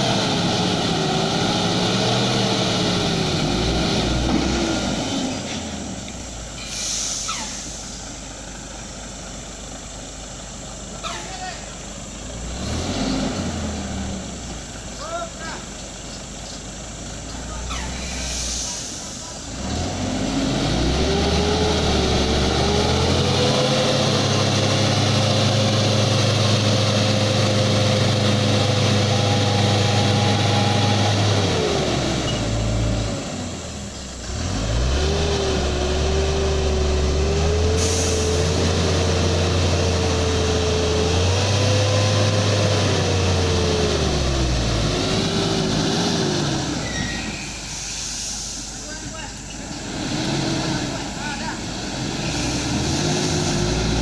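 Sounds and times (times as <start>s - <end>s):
vehicle engine under load: 0.0s - 54.0s.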